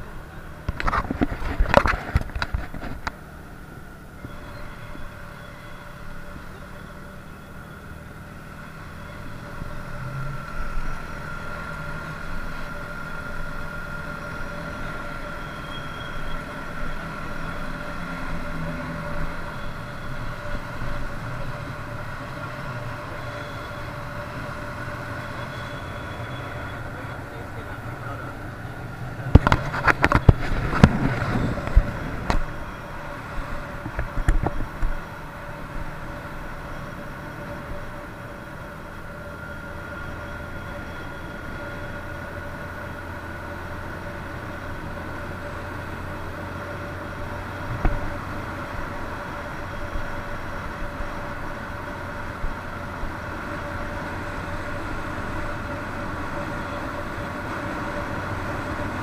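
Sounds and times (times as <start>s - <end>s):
moped engine running: 0.0s - 59.0s
wind and road noise: 0.0s - 59.0s.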